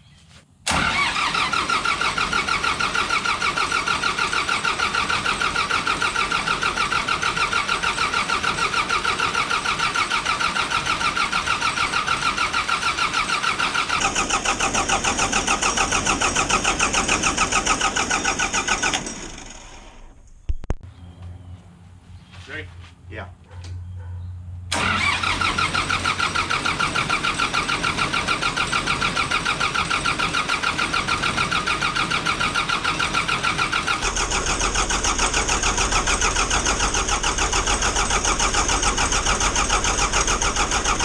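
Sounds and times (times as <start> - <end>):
starter cranking diesel engine: 0.7 - 20.2, 24.7 - 41.0.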